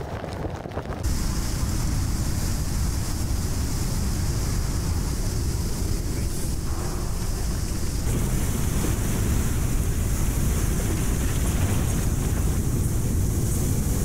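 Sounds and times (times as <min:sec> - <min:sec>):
storm surf breaking: 0:00.0 - 0:14.0
wind buffeting microphone: 0:00.0 - 0:14.0.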